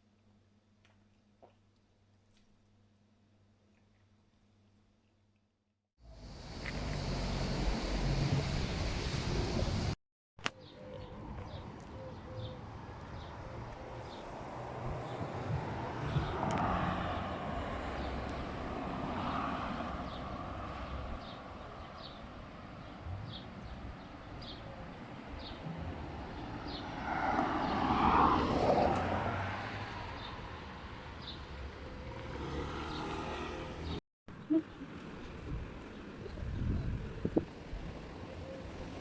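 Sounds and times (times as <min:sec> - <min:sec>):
road traffic rumble: 0:06.0 - 0:39.0
vehicles passing by: 0:06.0 - 0:39.0.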